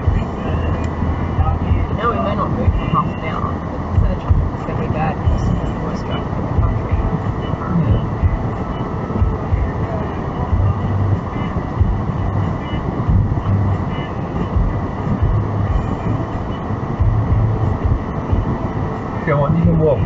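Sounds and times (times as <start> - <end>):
car cabin rumble: 0.0 - 20.0
deep pulsing hum: 0.0 - 20.0.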